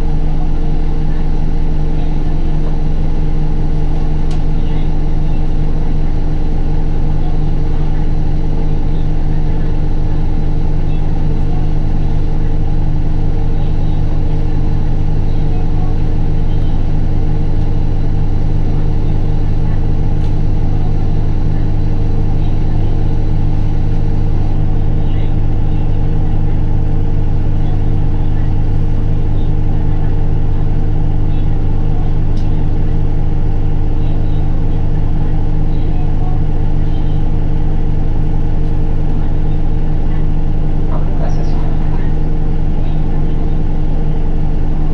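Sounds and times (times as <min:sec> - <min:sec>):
bus diesel engine humming: 0:00.0 - 0:44.9.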